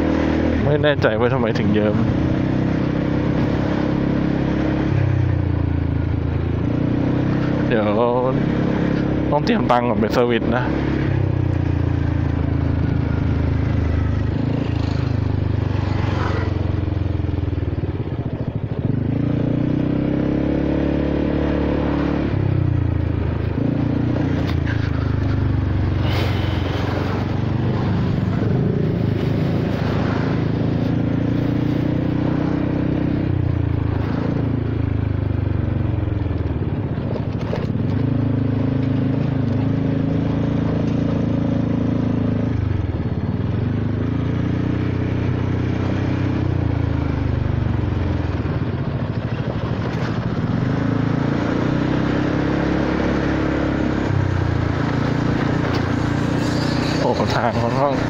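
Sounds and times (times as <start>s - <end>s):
scooter engine and exhaust: 0.0s - 58.0s.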